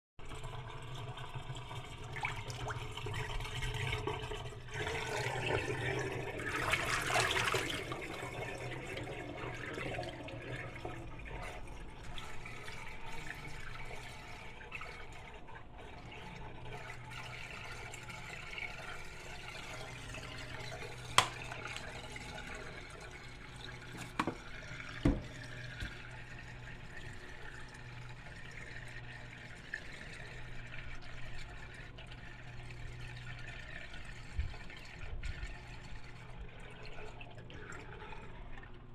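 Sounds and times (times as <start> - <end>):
water draining down sink: 0.2 - 38.9.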